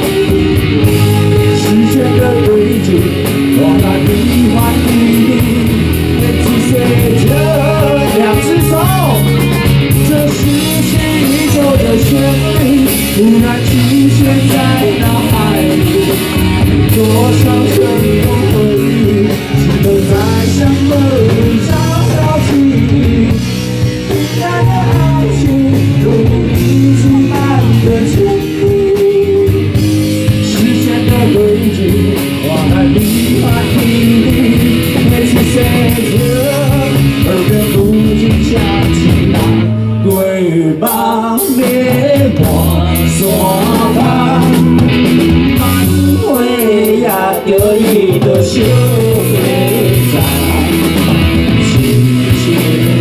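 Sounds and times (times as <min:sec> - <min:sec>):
electric guitar: 0:00.0 - 0:53.0
live rock band playing: 0:00.0 - 0:53.0
person singing: 0:00.0 - 0:53.0.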